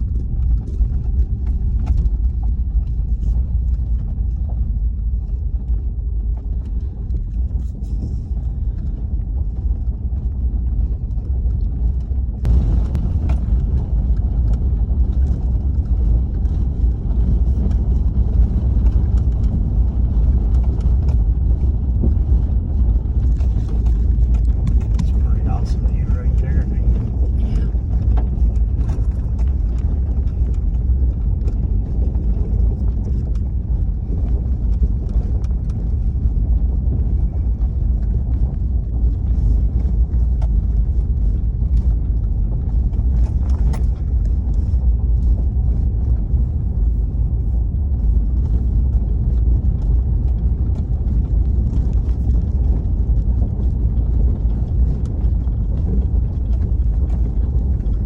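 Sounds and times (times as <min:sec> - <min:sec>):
small rattles and knocks: 0:00.0 - 0:58.0
vehicle road and engine rumble: 0:00.0 - 0:58.0.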